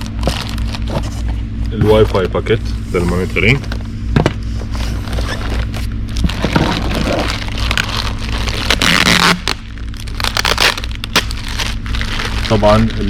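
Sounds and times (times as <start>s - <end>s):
packaging rustling: 0.0s - 2.4s, 4.6s - 13.0s
low electrical hum: 0.0s - 13.0s.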